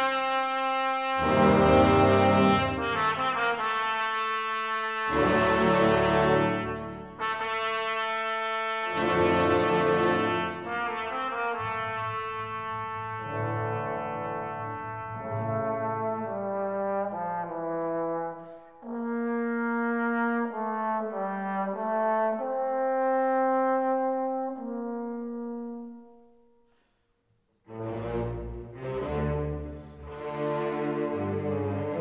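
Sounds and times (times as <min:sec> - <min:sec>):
brass playing slow melody: 0:00.0 - 0:26.4.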